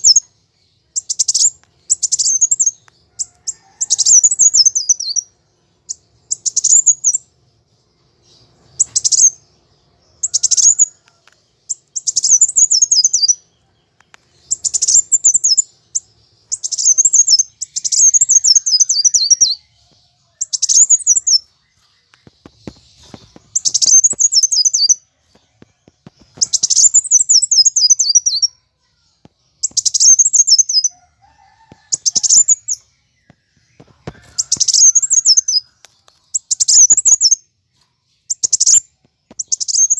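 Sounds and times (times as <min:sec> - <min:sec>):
sunbird twittering song: 0:00.0 - 0:39.9.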